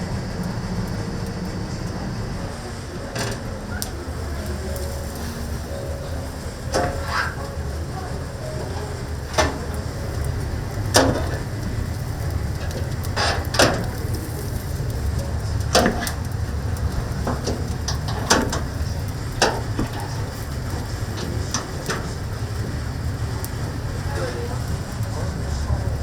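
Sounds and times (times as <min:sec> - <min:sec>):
fire popping: 0:00.0 - 0:26.0
wood fire rumbling: 0:00.0 - 0:26.0.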